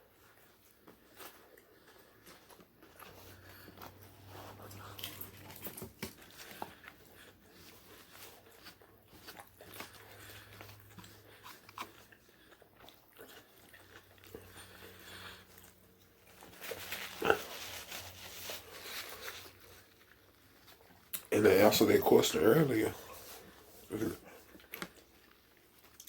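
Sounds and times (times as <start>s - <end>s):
person chewing crispy food: 0.0s - 26.0s.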